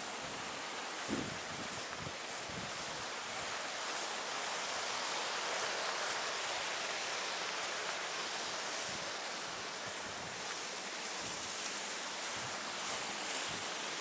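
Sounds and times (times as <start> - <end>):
wind hissing through grass: 0.0 - 14.0.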